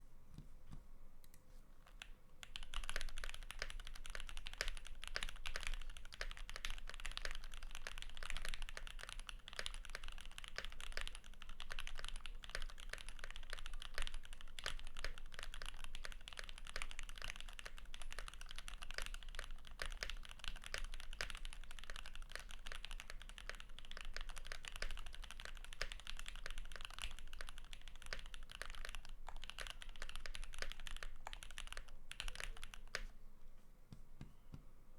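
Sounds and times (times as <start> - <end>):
mechanical keyboard typing: 1.8 - 33.1.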